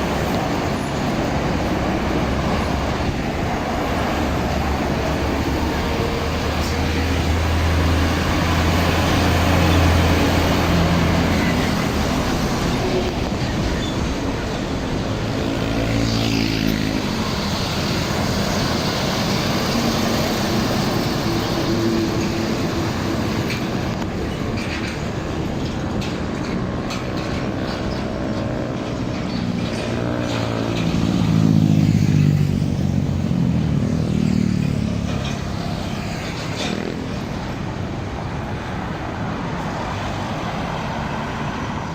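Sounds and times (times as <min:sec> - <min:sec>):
trucks driving past: 0:00.0 - 0:41.9.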